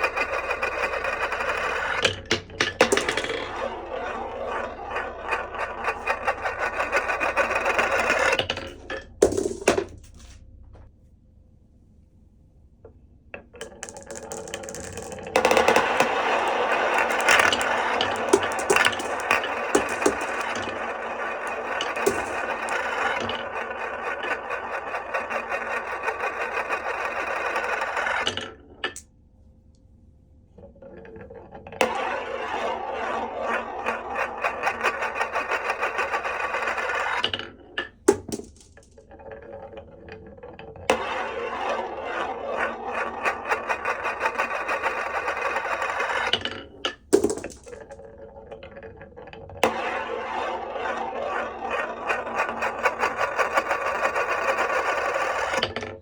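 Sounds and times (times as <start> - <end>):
marbles rolling on wooden run: 0.0 - 10.3, 13.6 - 29.0, 30.7 - 56.0.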